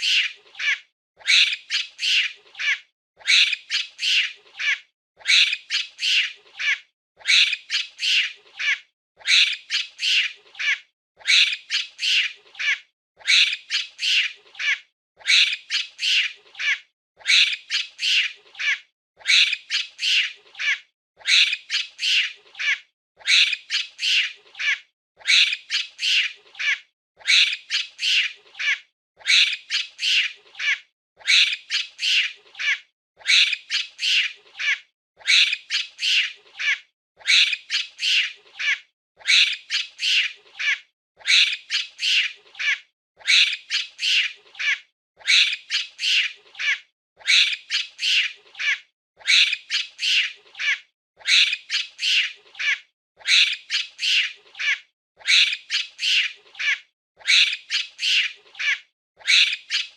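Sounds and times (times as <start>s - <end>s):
monkey screeching: 0.0s - 59.9s.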